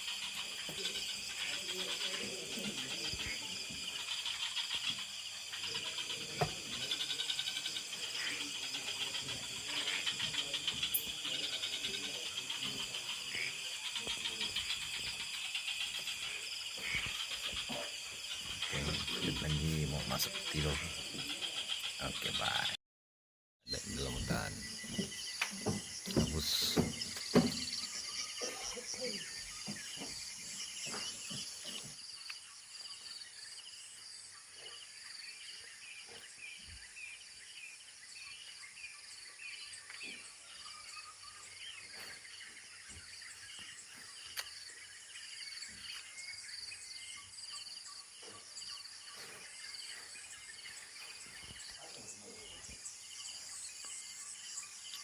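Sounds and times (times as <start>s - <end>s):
crickets trilling: 0.0s - 22.8s, 23.7s - 55.0s
insects chirping: 0.0s - 22.8s, 23.7s - 55.0s.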